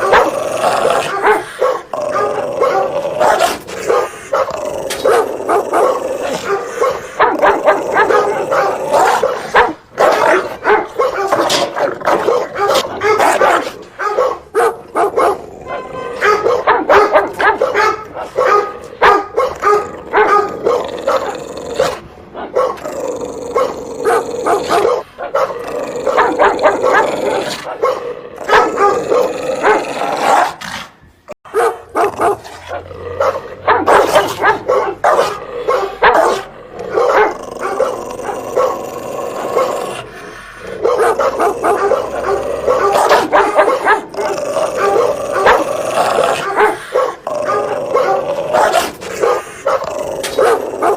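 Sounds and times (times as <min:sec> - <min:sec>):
dog barking loudly: 0:00.0 - 0:30.6, 0:31.4 - 0:50.9.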